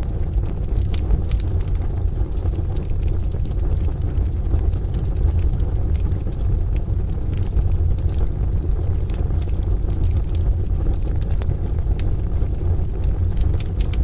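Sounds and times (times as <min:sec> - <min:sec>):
deep rumble: 0:00.0 - 0:14.0
wood fire crackling: 0:00.0 - 0:14.0.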